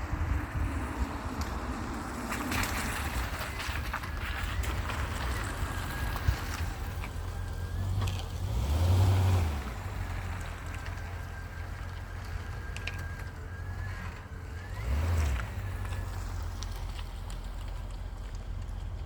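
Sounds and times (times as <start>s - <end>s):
car engine exhaust rumble: 0.0s - 19.0s
car engine revving: 0.0s - 19.0s.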